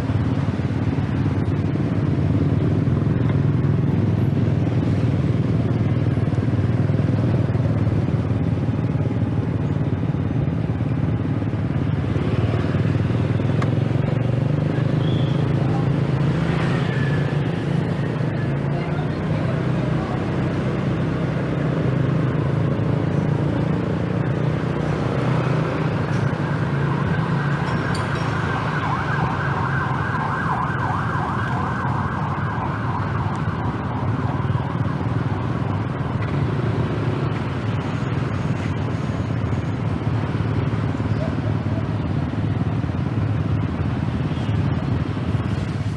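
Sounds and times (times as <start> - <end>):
road and wind noise: 0.0 - 45.9.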